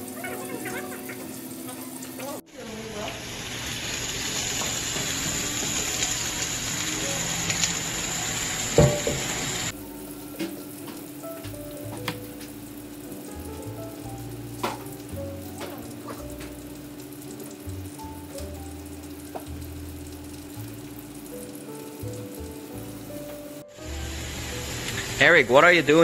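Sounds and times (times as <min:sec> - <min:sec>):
onion sizzling in frying pan: 0:00.0 - 0:26.0.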